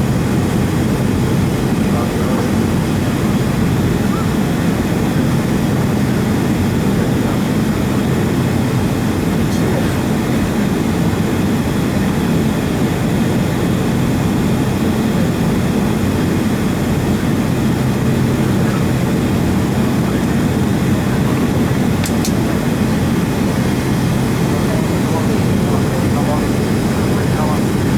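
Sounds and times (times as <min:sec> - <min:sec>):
airliner cabin rumble: 0:00.0 - 0:27.9.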